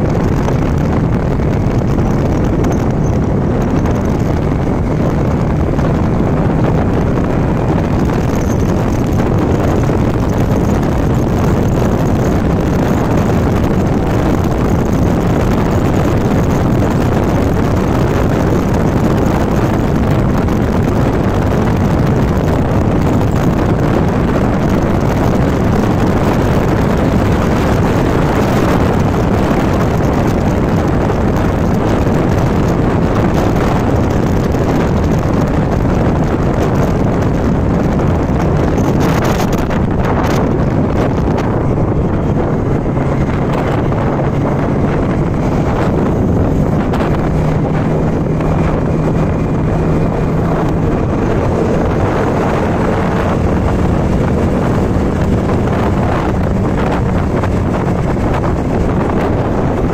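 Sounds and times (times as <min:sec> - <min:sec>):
motorcycle engine drone: 0:00.0 - 0:59.9
wind rushing over microphone: 0:00.0 - 0:59.9.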